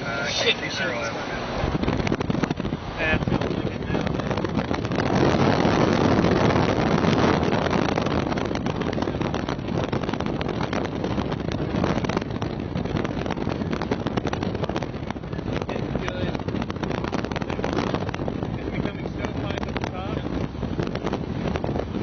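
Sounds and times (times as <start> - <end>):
gusty wind buffeting microphone: 0.0 - 22.0.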